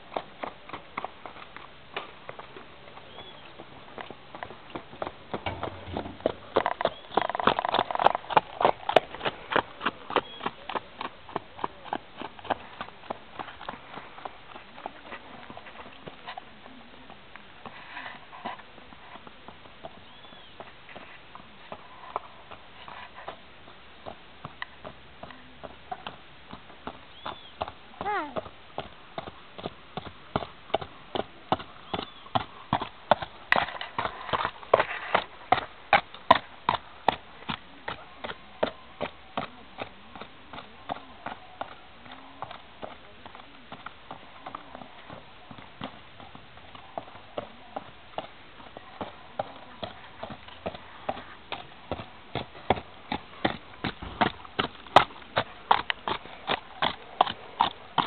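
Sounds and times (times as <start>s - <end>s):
horse hooves clip-clopping: 0.0s - 58.0s.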